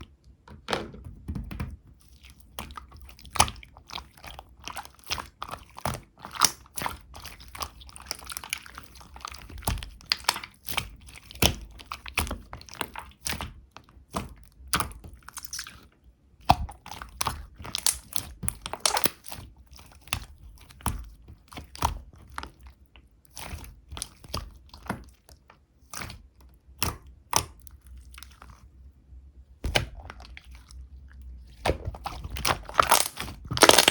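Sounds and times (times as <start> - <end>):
slime squished by hand: 1.9 - 22.7, 25.8 - 28.6, 29.6 - 33.9.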